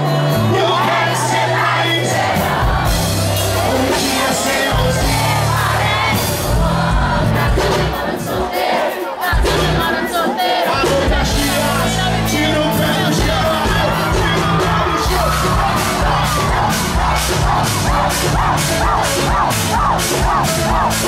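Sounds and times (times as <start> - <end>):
crowd cheering and yelling: 0.0 - 21.0
live band with singer: 0.0 - 21.0.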